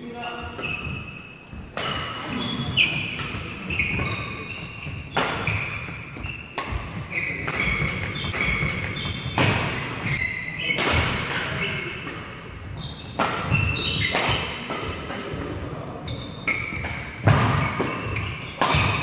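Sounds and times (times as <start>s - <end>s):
shoes squeaking on court: 0.0s - 15.1s, 15.9s - 19.0s
rackets hitting shuttlecock: 0.6s - 19.0s.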